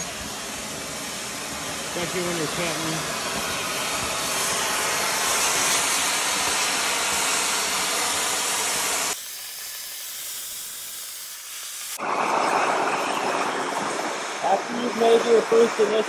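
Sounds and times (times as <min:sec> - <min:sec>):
torch flame hissing: 0:00.0 - 0:14.4.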